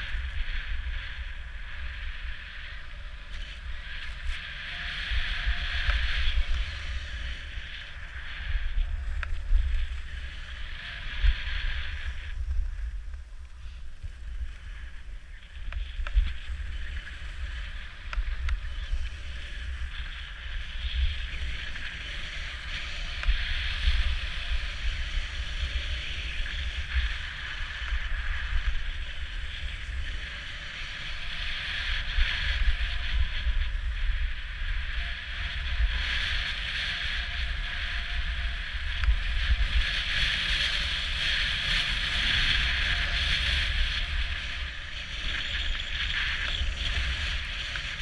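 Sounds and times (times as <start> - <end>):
skis scraping over snow: 0.0 - 48.0
wind rumbling on microphone: 0.0 - 48.0.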